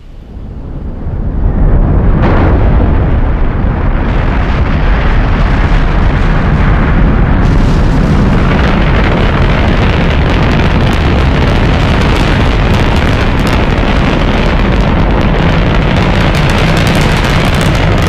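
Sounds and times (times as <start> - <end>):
rocket engines rumbling: 0.0 - 18.0
high crackle: 2.2 - 18.0.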